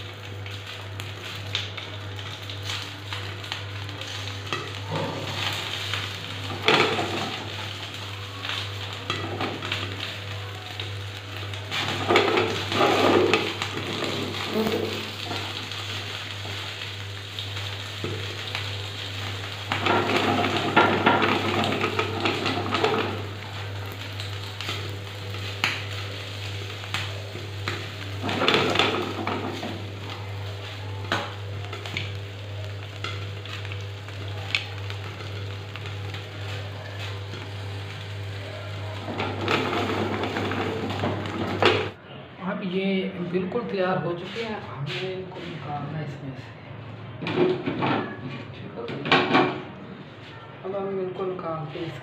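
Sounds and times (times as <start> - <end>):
frying sizzle: 0.0 - 42.0
popcorn popping: 0.0 - 42.0
popcorn rattling in pan: 0.0 - 42.0.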